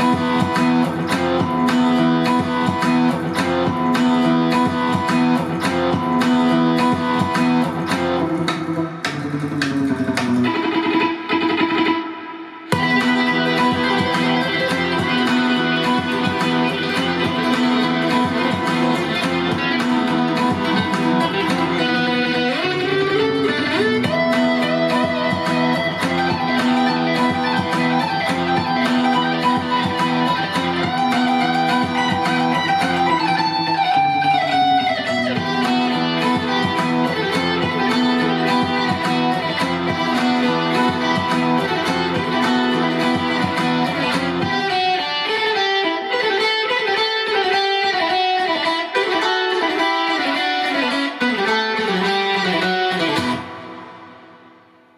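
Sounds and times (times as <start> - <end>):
guitar-led music: 0.0 - 54.9.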